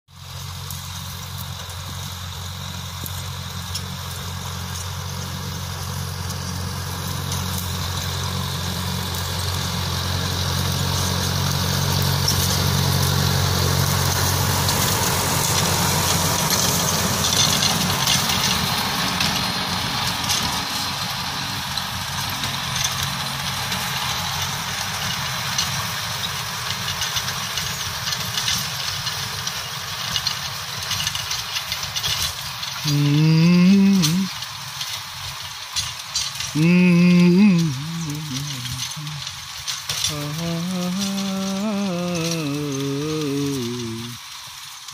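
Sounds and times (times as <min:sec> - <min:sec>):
rotary tiller churning soil: 0:00.1 - 0:44.9
tractor diesel engine under load: 0:00.1 - 0:44.9.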